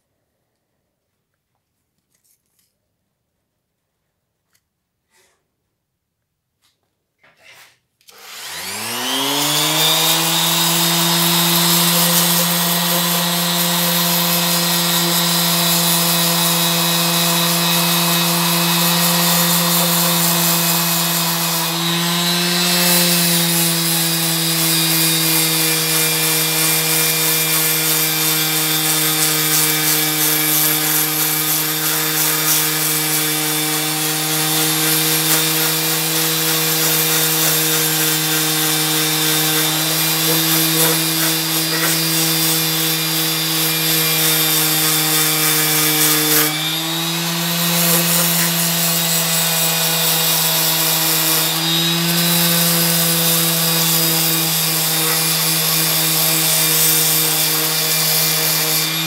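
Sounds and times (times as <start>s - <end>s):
orbital sander sanding wood: 8.1s - 59.0s.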